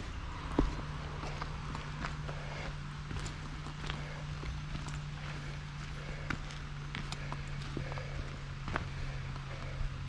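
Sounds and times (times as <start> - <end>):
footsteps on a mountain trail: 0.0 - 10.0
steady low hum: 0.0 - 10.0.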